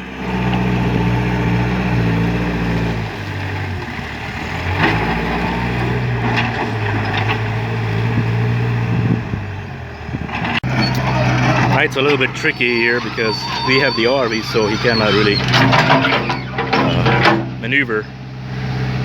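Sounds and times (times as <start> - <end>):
backhoe engine under load: 0.0 - 19.0.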